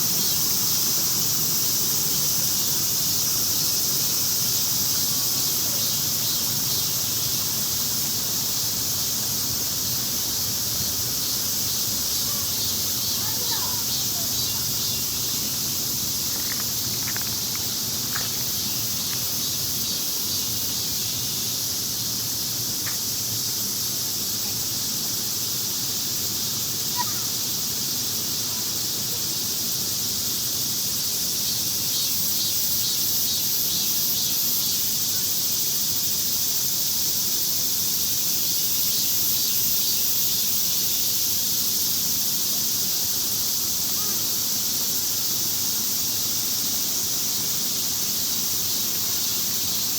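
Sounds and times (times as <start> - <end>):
cicadas shrill drone: 0.0 - 49.9
pulsing insect call: 0.0 - 49.9.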